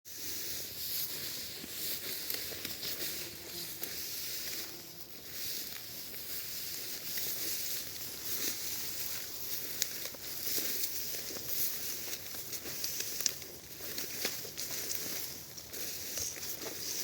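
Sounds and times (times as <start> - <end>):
rustling and small crackles: 0.1 - 17.0.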